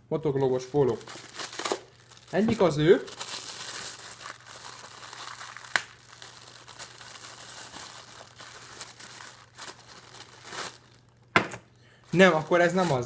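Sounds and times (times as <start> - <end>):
plastic packaging crinkling: 0.2 - 11.4, 12.0 - 13.0.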